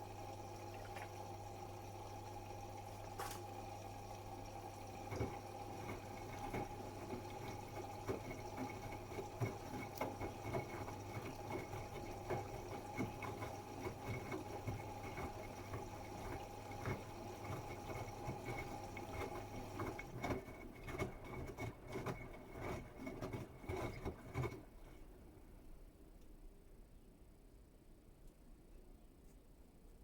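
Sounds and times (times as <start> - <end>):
washing machine water inflow: 0.0 - 25.9.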